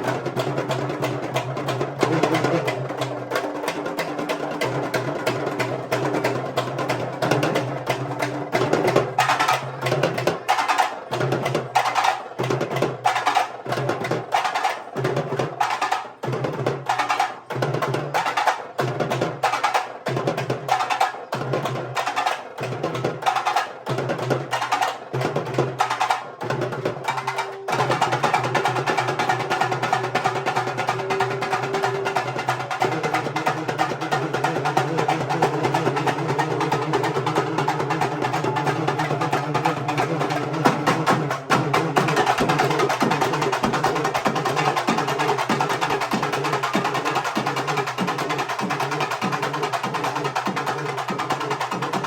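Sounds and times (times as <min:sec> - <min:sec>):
drums beating fast rhythm: 0:00.0 - 0:52.0.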